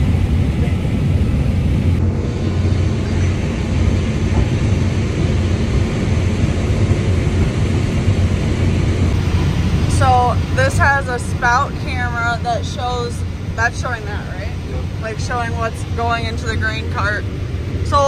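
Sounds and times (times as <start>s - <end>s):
combine harvester droning: 0.0s - 18.0s.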